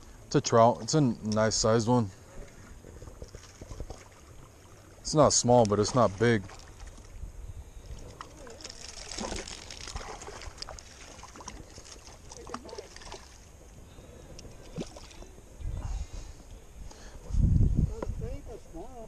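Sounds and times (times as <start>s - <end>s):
water splashing and sloshing: 0.0s - 16.3s.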